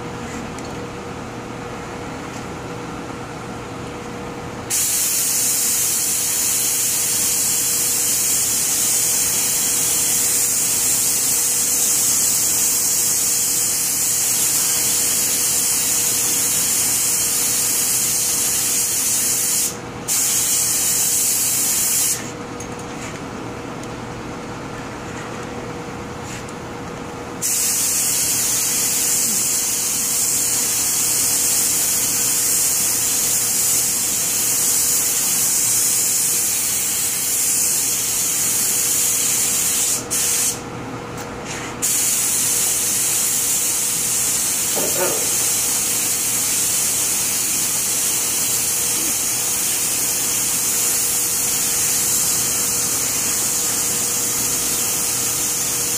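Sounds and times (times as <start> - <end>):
paint spray gun hissing: 4.7 - 22.3, 27.4 - 40.6, 41.8 - 55.9.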